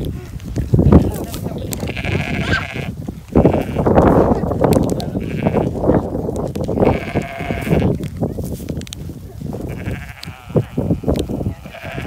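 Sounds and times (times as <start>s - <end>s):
sheep and goats bleating: 0.0s - 8.6s, 9.2s - 12.0s.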